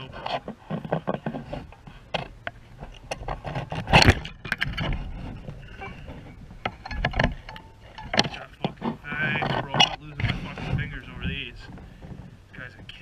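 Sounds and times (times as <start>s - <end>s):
rod and reel knocking: 0.0s - 13.0s
wind buffeting microphone: 0.0s - 13.0s.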